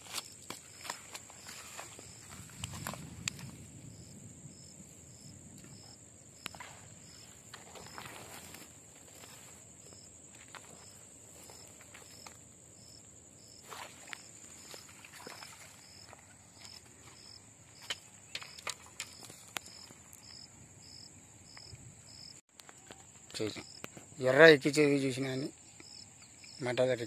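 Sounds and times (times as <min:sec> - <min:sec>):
insect chirping in pulses: 0:00.0 - 0:27.0.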